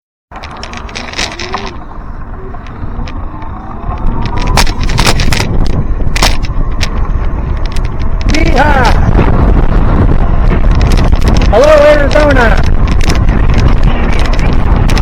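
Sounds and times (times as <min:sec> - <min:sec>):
bicycle clicks and rattles: 0:00.3 - 0:15.0
wind rumbling on microphone: 0:00.3 - 0:15.0.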